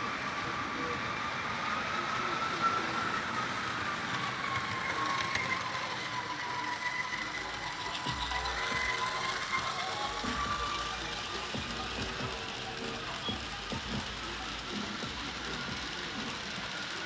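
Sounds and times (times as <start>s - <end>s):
model train motor whine: 0.0s - 17.0s
wheels ticking on rails: 0.0s - 17.0s.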